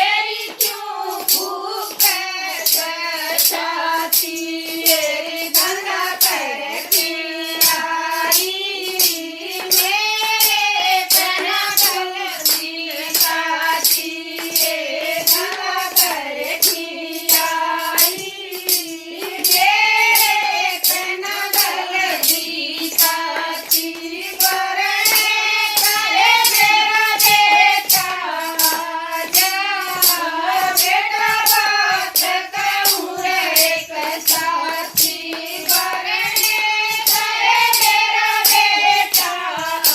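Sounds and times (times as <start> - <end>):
jingling percussion beat: 0.0 - 39.9.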